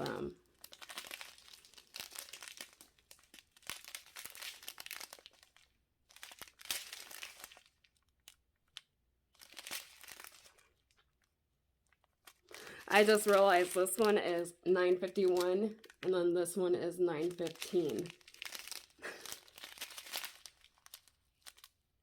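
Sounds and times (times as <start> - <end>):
plastic packs crinkling: 0.0 - 16.6, 17.2 - 21.8.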